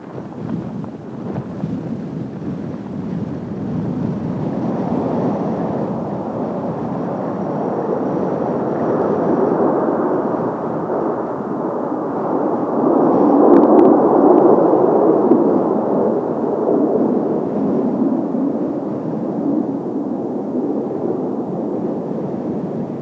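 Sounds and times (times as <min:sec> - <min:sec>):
jets flying over: 0:00.0 - 0:23.0.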